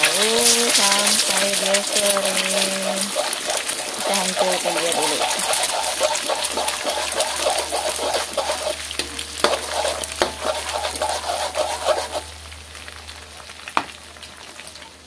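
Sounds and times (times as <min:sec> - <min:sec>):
metal spatula scraping pan: 0:00.0 - 0:12.3
egg sizzling in oil: 0:00.0 - 0:15.0.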